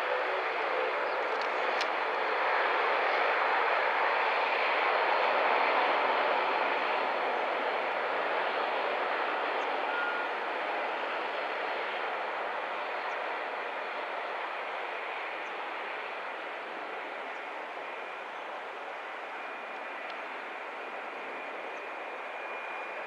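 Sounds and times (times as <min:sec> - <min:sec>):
jet engines roaring: 0:00.1 - 0:23.0.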